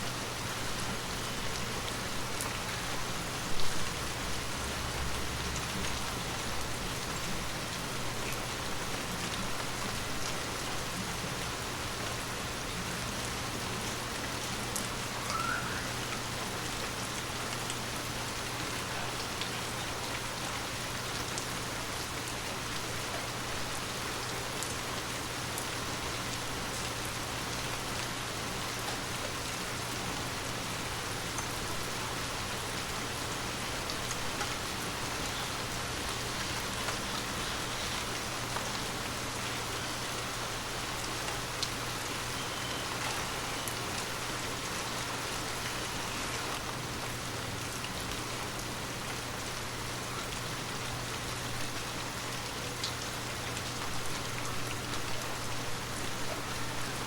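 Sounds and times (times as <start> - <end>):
heavy rain hiss: 0.0 - 57.0
raindrops ticking on surfaces: 0.0 - 57.0.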